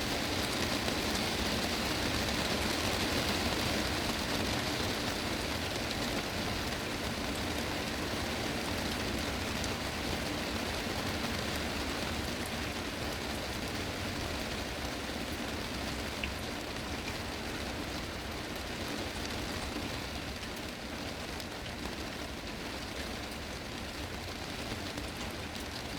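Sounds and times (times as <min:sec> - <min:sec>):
heavy rain on a glass roof: 0:00.0 - 0:25.9.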